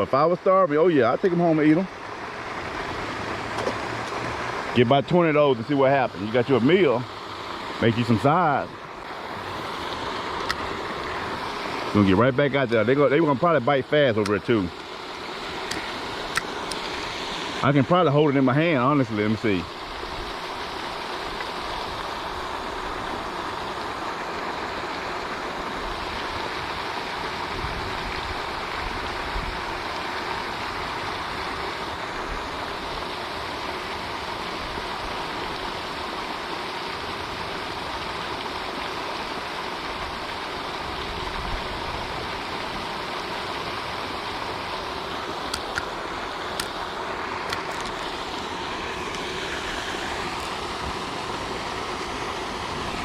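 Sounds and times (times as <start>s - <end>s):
fountain water splashing: 0.0s - 53.0s.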